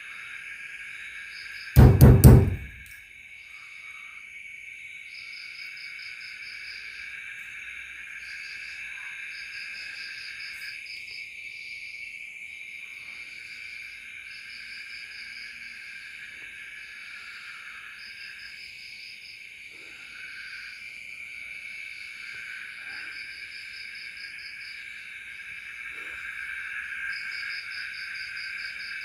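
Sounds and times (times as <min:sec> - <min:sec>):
crickets chirping: 0:00.0 - 0:29.0
insects buzzing: 0:00.0 - 0:29.0.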